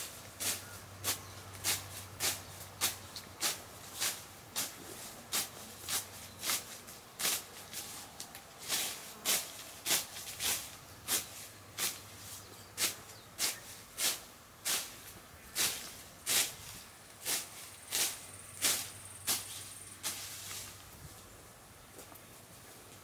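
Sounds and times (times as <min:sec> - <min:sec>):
sickle swishing through grass: 0:00.0 - 0:21.3.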